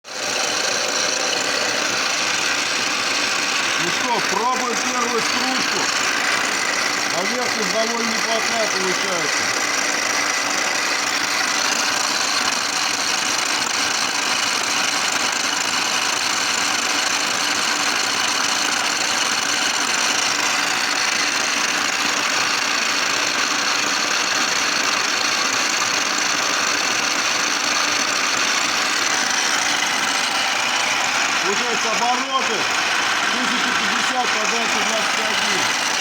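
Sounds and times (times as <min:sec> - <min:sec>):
milling machine cutting metal: 0:00.0 - 0:36.0.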